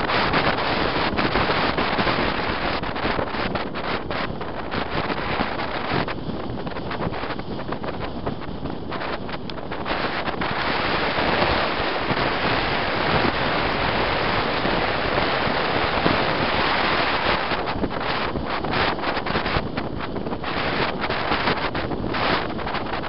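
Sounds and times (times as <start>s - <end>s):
road noise: 0.0s - 23.0s
wind over microphone: 0.0s - 23.0s.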